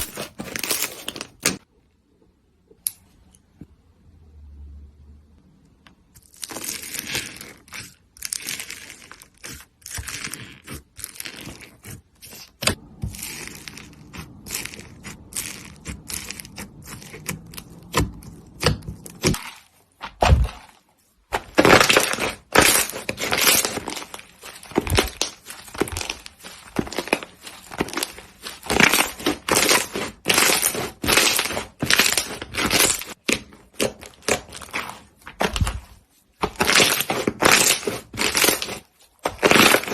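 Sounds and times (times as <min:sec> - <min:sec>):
crunchy slime crackling and popping: 0:06.2 - 0:39.9.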